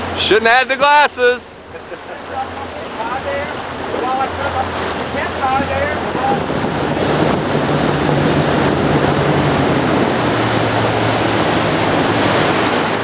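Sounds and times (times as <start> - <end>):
boat wake rushing: 0.0 - 13.0
motorboat engine hum: 0.0 - 13.0
wind buffeting microphone: 2.6 - 13.0.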